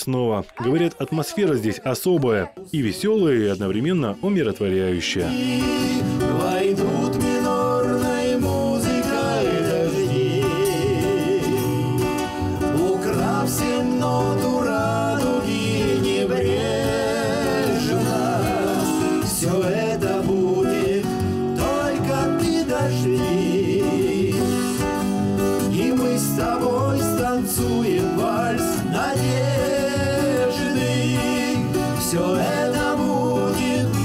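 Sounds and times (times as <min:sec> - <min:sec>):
acoustic guitars playing: 0:00.1 - 0:34.0
two men singing: 0:04.9 - 0:34.0.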